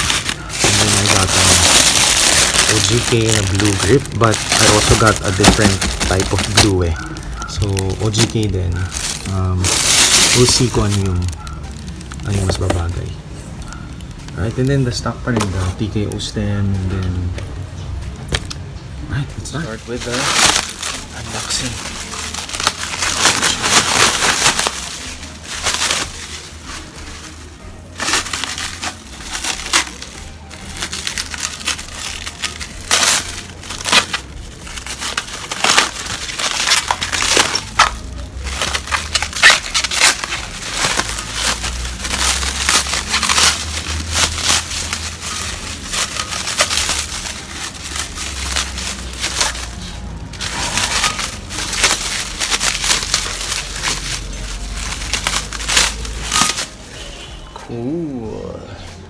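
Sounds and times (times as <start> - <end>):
packaging rustling and crinkling: 0.0 - 57.4.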